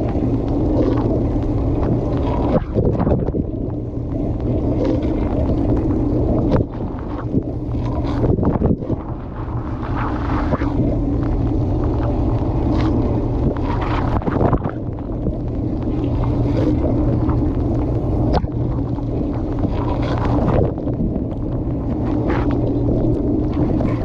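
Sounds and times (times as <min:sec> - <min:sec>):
dishwasher pump motor hum: 0:00.0 - 0:24.0
water spraying and splashing: 0:00.0 - 0:24.0.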